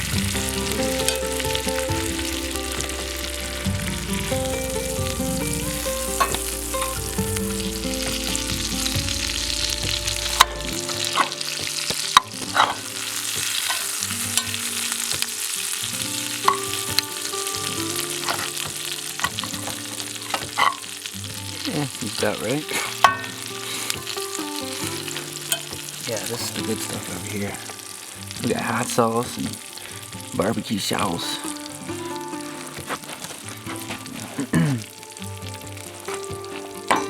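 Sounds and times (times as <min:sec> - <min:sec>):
meat sizzling in a skillet: 0:00.0 - 0:37.0.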